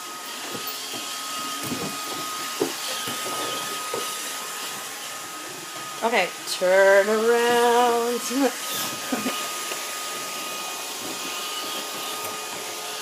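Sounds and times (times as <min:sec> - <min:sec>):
robot vacuum running: 0:00.0 - 0:13.0.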